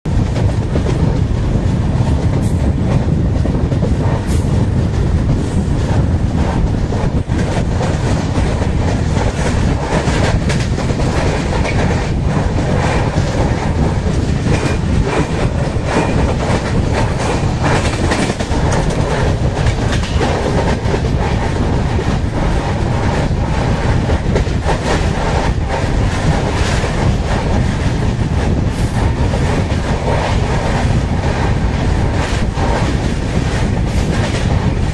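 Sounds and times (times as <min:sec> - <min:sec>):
train wheels rumbling on rails: 0:00.0 - 0:34.9
clickety-clack of rail joints: 0:00.1 - 0:34.9.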